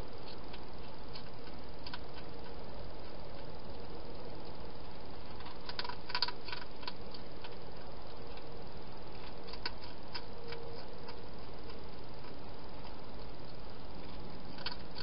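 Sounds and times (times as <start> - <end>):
steady hiss: 0.0 - 15.0
hedgehog chewing clicks: 0.2 - 4.6, 5.3 - 8.5, 9.1 - 15.0.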